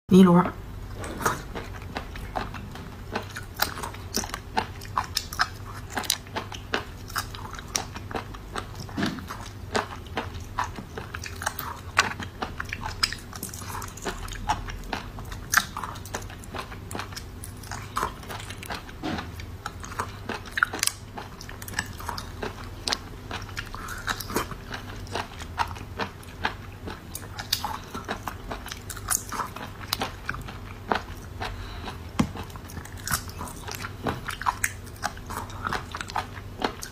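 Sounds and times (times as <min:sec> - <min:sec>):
chewing: 0:00.9 - 0:36.9.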